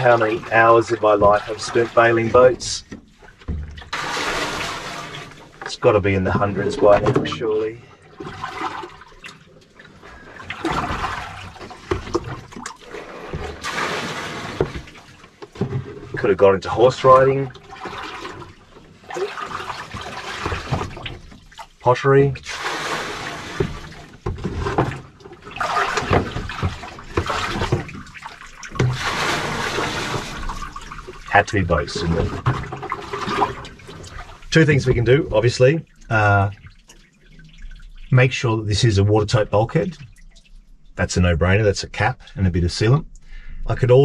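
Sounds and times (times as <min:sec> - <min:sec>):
water sloshing and pouring: 0:00.0 - 0:41.1.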